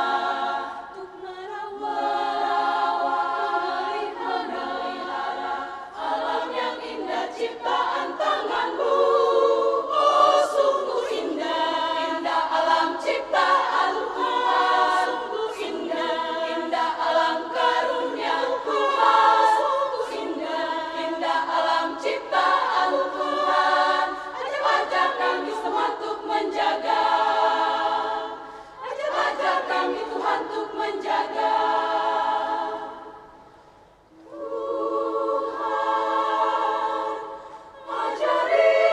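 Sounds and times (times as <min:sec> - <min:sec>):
women's choir singing: 0:00.0 - 0:38.9.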